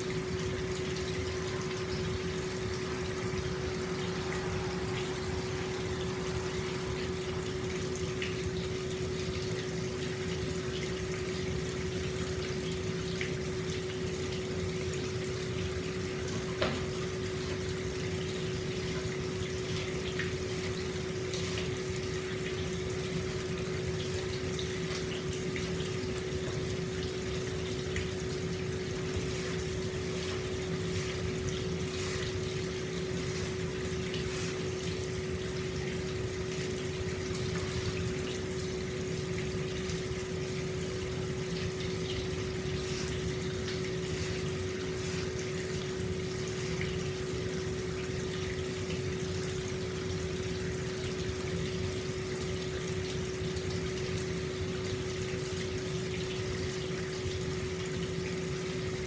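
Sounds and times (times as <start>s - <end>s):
small ticks and splashes: 0.0s - 59.0s
water flowing into a bath: 0.0s - 59.0s.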